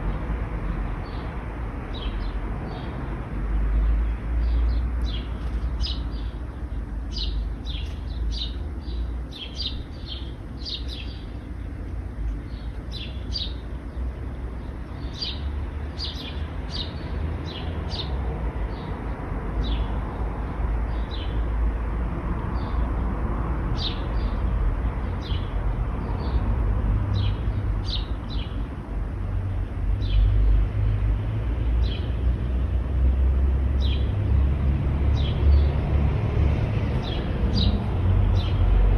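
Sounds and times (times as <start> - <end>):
small birds chirping: 0.0 - 21.9, 23.7 - 31.0, 31.6 - 32.7, 33.6 - 35.8, 36.8 - 38.8
road traffic rumble: 0.0 - 38.9.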